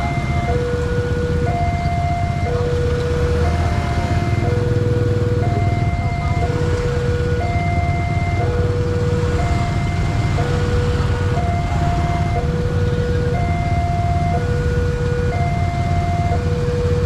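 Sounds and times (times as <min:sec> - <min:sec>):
level crossing two-tone alarm: 0:00.0 - 0:17.0
motorcycle engines idling: 0:00.0 - 0:17.0.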